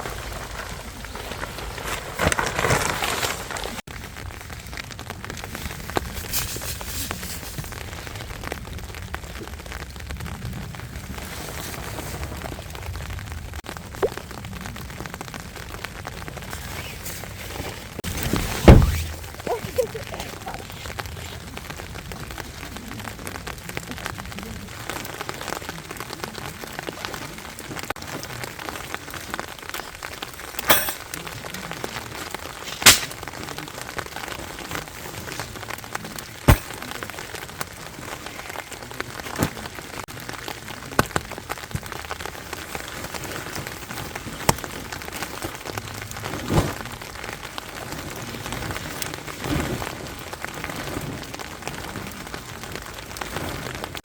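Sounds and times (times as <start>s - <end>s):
rain on a tent: 0.0s - 54.0s.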